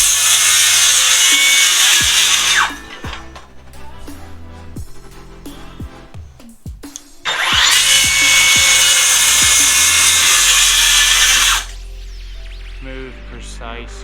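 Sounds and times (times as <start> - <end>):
circular saw cutting wood: 0.0 - 5.8, 6.8 - 13.1
background music with a beat: 0.0 - 14.0.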